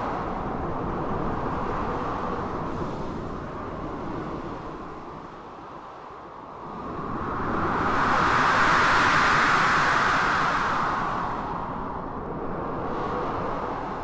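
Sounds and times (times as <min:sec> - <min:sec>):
blizzard wind: 0:00.0 - 0:14.0.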